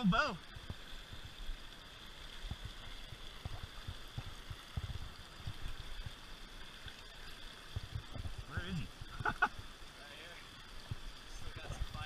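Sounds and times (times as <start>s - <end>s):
creek rushing over stones: 0.0s - 12.0s.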